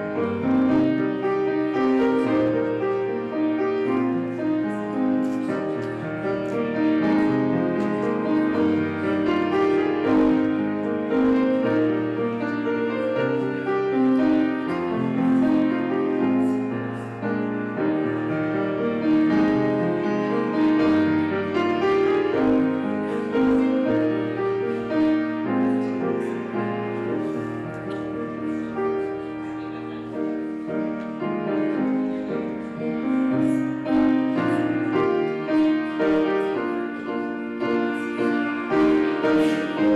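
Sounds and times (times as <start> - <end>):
piano playing slow chords: 0.0 - 39.9.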